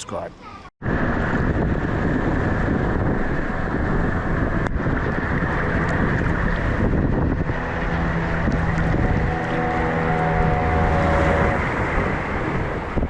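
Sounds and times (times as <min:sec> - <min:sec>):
low motor hum: 0:00.8 - 0:13.0
wind buffeting microphone: 0:00.8 - 0:13.0.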